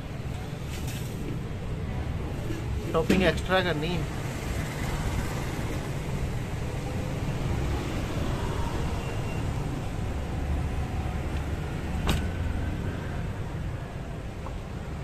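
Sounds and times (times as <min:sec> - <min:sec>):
street and traffic rumble: 0:00.0 - 0:15.0.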